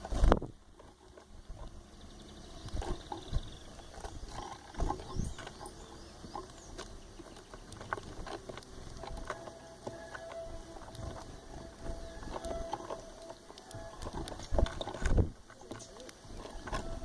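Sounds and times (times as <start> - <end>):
birds chirping faintly: 0.0 - 17.0
knocks and rustling: 2.7 - 17.0.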